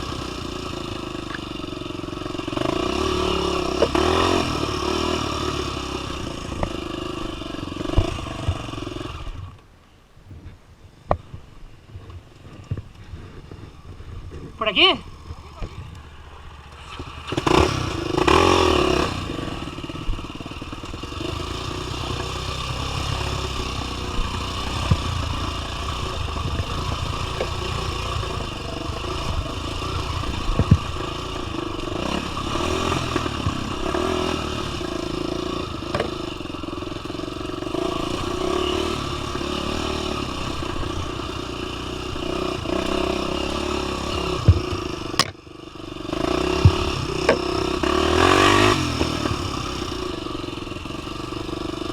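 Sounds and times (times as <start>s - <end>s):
dirt bike engine revving: 0.0s - 9.6s, 13.4s - 51.9s.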